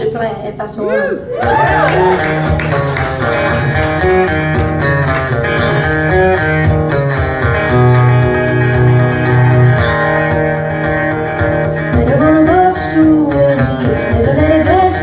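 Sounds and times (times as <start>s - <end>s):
acoustic guitar strumming chords: 1.6s - 15.0s.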